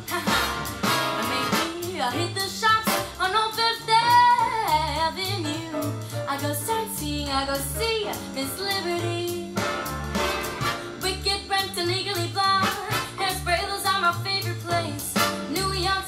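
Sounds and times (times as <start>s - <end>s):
woman singing: 0.0s - 9.7s, 11.0s - 16.0s
swing jazz through a loudspeaker: 0.0s - 16.0s.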